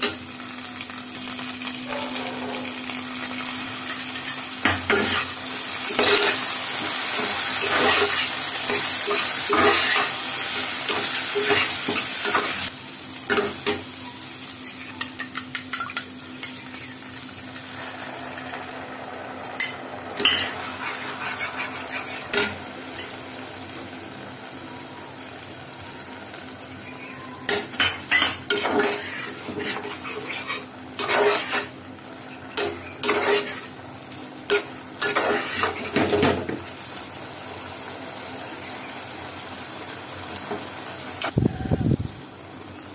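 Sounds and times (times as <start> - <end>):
food sizzling in frying pan: 0.0 - 42.9.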